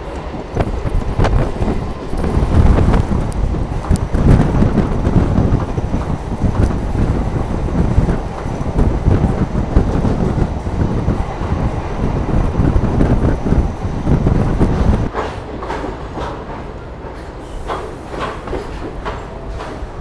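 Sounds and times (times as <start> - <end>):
train wheels rumbling on track: 0.0 - 20.0
wind buffeting microphone: 0.0 - 20.0.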